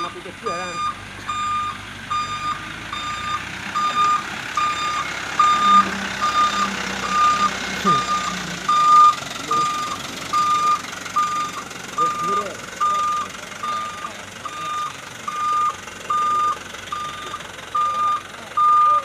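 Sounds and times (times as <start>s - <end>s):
diesel engine running: 0.0s - 19.0s
truck reversing beeper: 0.0s - 19.0s.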